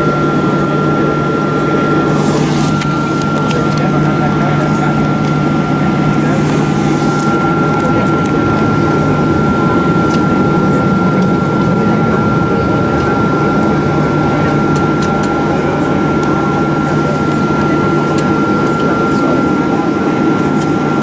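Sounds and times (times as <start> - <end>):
air-conditioning rush: 0.0 - 21.0
jet engine whine and rumble: 0.0 - 21.0.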